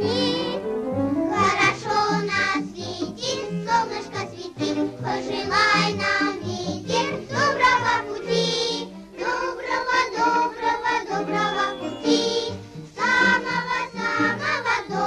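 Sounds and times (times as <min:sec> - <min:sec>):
children's song: 0:00.0 - 0:15.0.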